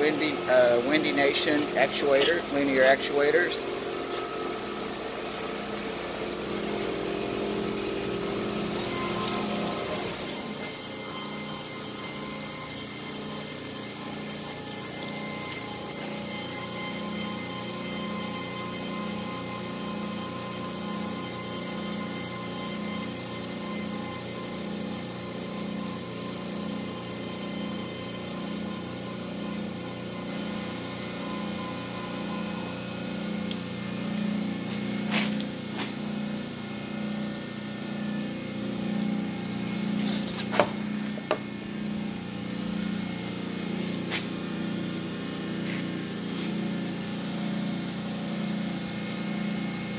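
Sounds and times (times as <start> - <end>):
pulsing electric machine hum: 0.0 - 49.9.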